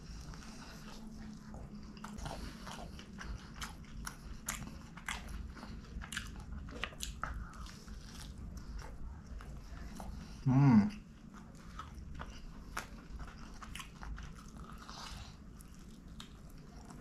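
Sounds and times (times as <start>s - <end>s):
person chewing crunchy crust: 0.0s - 17.0s.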